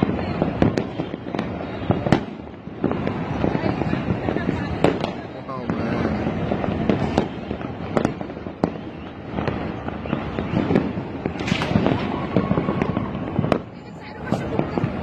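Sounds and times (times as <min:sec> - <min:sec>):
firework hiss: 0:00.0 - 0:15.0
fireworks crackling and banging: 0:00.0 - 0:15.0.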